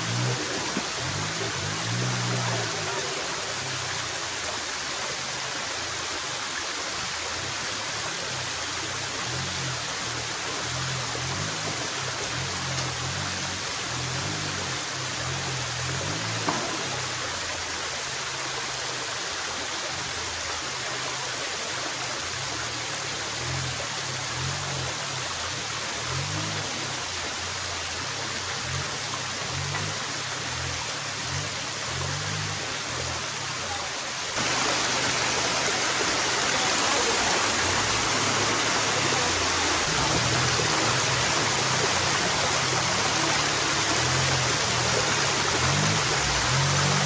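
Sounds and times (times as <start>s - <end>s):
mountain stream rushing: 0.0s - 47.0s.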